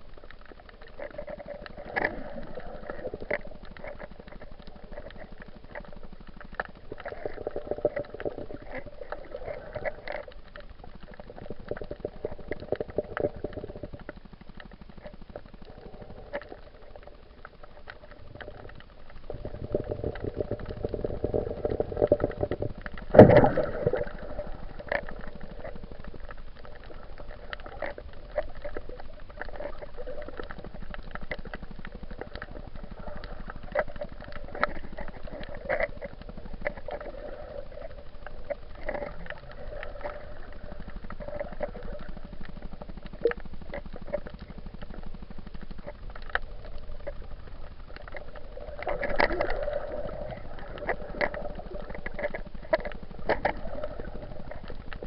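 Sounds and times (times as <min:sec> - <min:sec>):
bubbling: 0:00.0 - 0:55.0
muffled underwater water noise: 0:00.0 - 0:55.0
small underwater clicks: 0:00.0 - 0:55.0.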